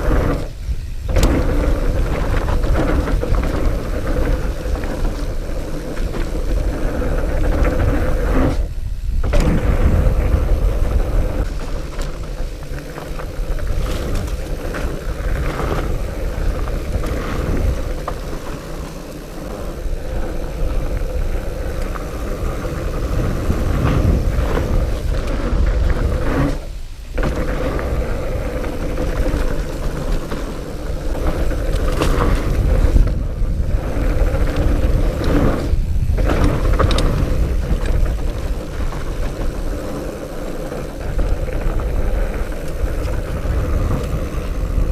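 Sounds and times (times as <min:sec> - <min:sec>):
bike rattles and knocks: 0:00.0 - 0:44.9
bike tyres rumbling on dirt: 0:00.0 - 0:44.9
wind noise: 0:00.0 - 0:44.9.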